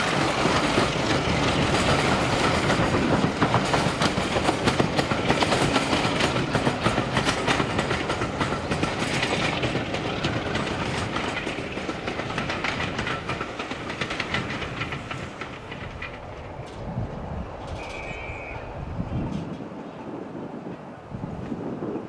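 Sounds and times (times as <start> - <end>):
train wheels clicking over rail joints: 0.0 - 18.5.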